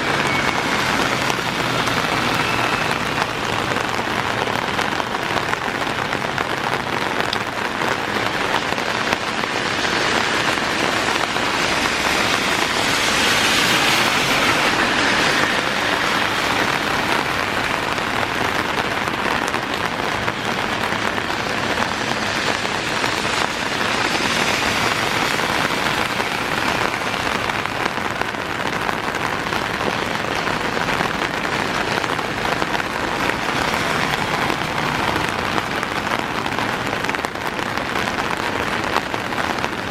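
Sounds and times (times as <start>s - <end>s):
heavy downpour hissing: 0.0s - 39.9s.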